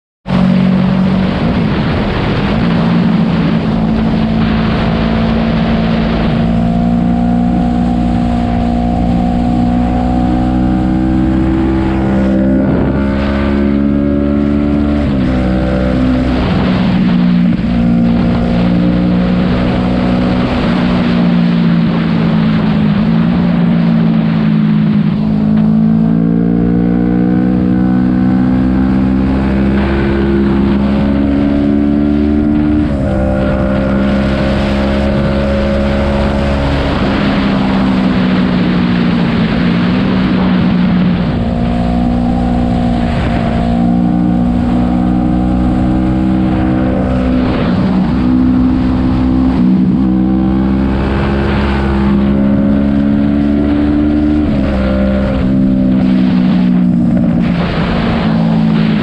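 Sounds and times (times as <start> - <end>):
motorcycle engine running: 0.2 - 59.0
wind rush on microphone: 0.2 - 59.0.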